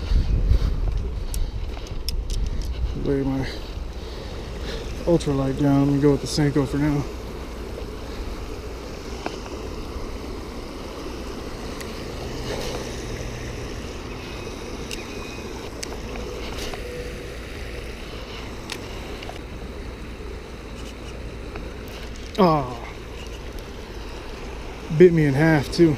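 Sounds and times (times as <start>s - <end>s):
rushing outdoor noise: 0.0s - 25.9s.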